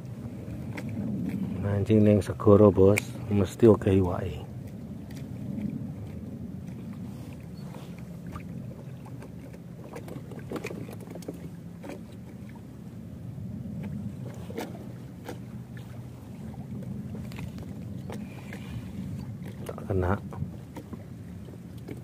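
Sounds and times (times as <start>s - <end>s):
knocks and clicks on a boat: 0.0s - 13.0s, 13.7s - 22.0s
wind: 0.0s - 22.0s.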